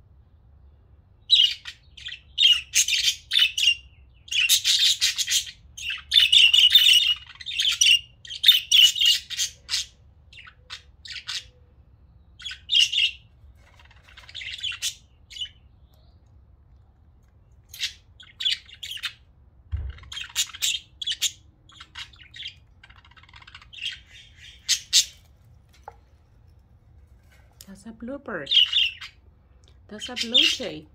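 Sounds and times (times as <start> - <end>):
budgerigars chirping and squawking: 1.2 - 11.6, 12.3 - 16.3, 17.5 - 26.2, 28.3 - 29.3, 29.9 - 30.9.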